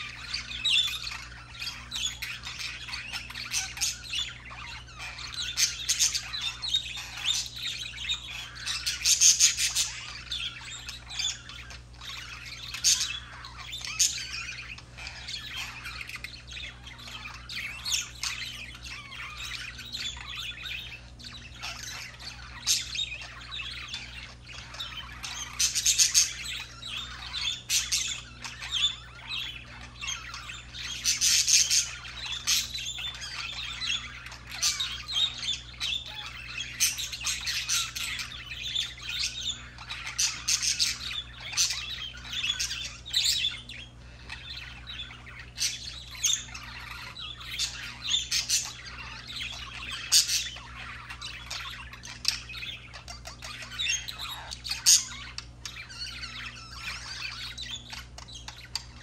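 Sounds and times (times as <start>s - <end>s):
budgerigars warbling and chattering: 0.0s - 59.0s.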